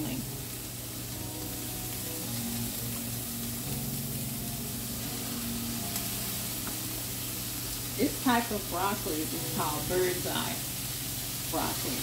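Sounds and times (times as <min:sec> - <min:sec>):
soft background music: 0:00.0 - 0:12.0
vegetables sizzling in oil: 0:00.0 - 0:12.0.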